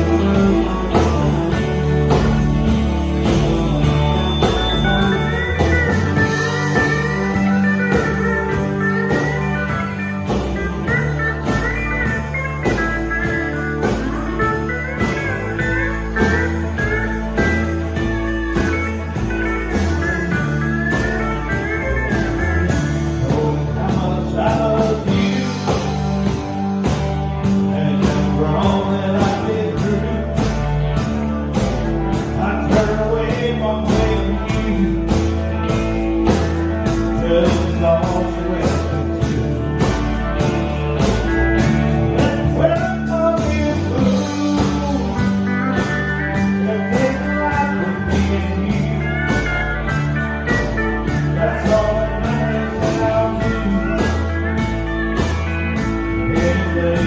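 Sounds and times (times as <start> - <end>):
guitar lead: 0.0 - 57.0
steady drum beat: 0.0 - 57.0
walking bass line: 0.0 - 57.0.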